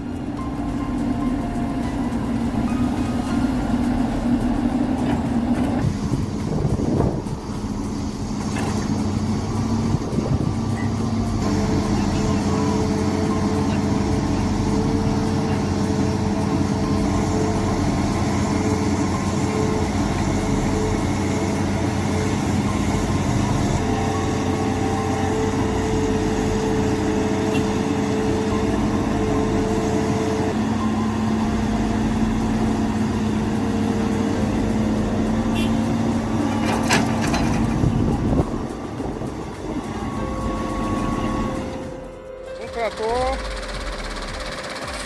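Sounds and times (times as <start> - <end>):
heavy vehicle engine running: 0.0 - 45.0.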